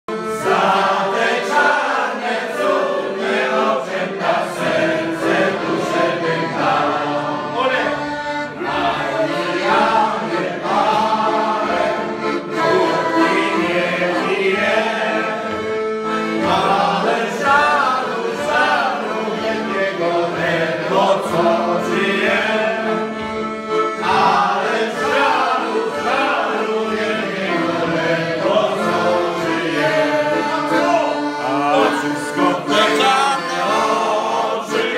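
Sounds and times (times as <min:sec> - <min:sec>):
piano accordion playing: 0:00.0 - 0:34.9
group of people singing: 0:00.1 - 0:34.9.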